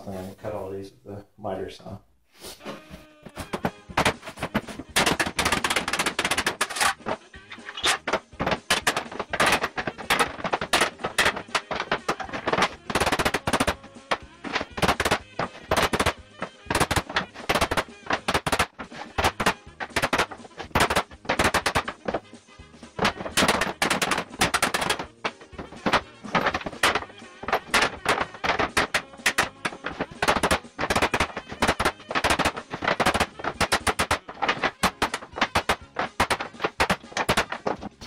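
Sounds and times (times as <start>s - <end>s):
hammer striking wood: 3.4s - 22.3s, 23.0s - 38.0s.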